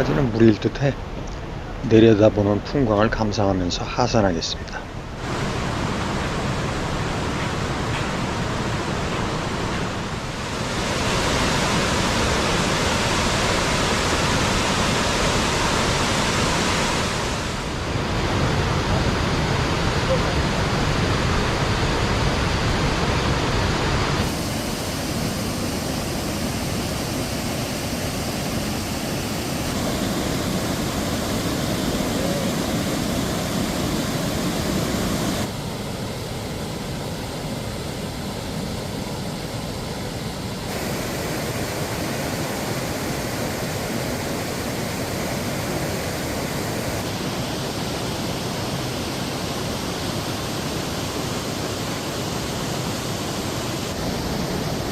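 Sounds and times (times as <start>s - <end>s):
mountain stream rushing: 4.8s - 54.9s.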